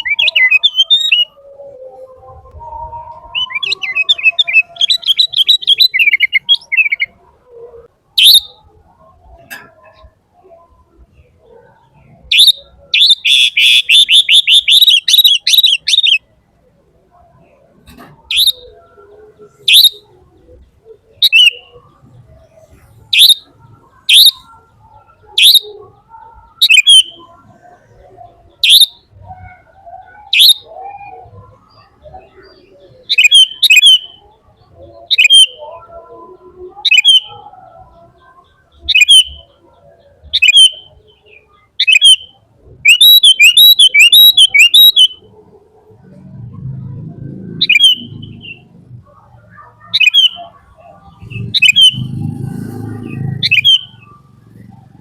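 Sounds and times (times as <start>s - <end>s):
bird chirping: 0.0s - 16.3s, 17.0s - 55.0s.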